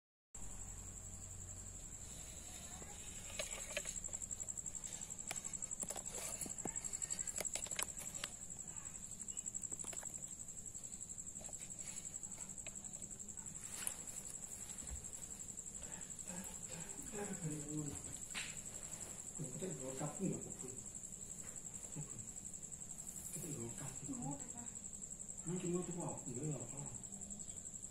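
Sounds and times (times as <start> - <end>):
cricket trilling: 0.4 - 27.9.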